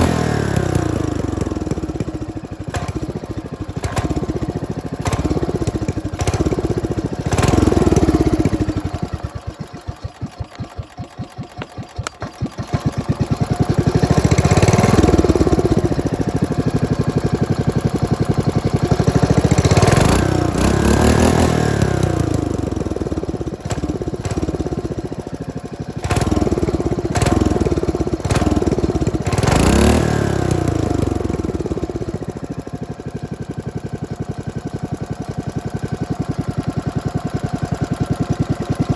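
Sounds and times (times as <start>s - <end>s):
small engine revving and idling: 0.0s - 38.9s.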